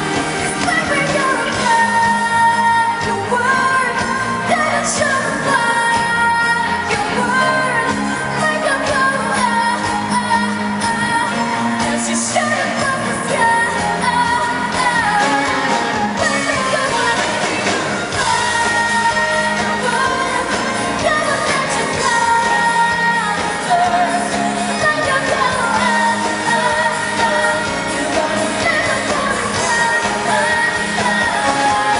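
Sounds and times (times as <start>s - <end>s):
pop band playing: 0.0s - 31.9s
woman singing: 0.0s - 31.9s.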